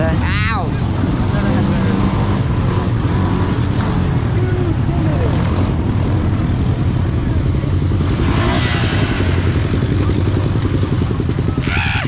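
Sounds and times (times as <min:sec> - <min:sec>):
atv engine pulsing: 0:00.0 - 0:12.0.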